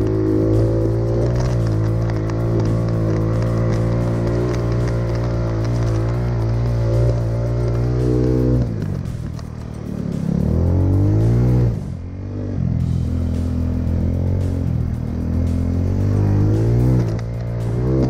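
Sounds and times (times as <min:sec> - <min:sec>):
scooter engine revving: 0:00.0 - 0:18.0.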